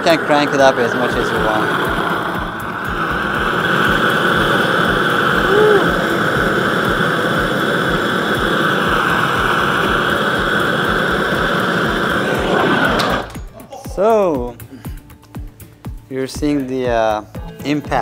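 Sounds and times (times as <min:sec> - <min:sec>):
propane torch hissing: 0:00.0 - 0:18.0.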